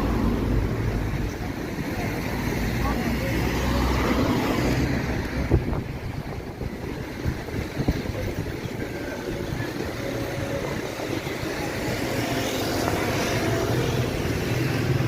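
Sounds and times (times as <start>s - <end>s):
car traffic hum: 0.0s - 15.0s.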